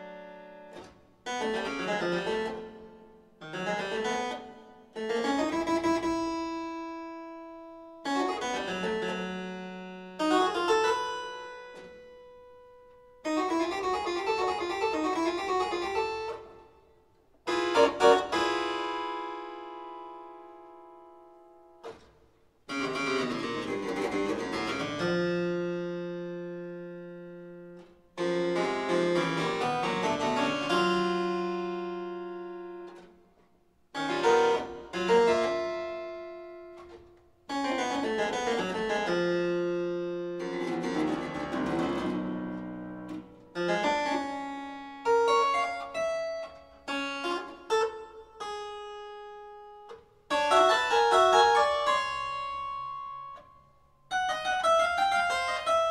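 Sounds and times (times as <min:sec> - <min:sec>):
solo harpsichord chords: 0:00.0 - 0:22.0, 0:22.6 - 0:55.9.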